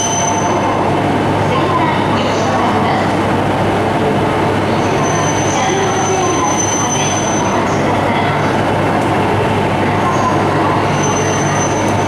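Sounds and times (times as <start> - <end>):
train rolling with steady hum: 0.0 - 12.0.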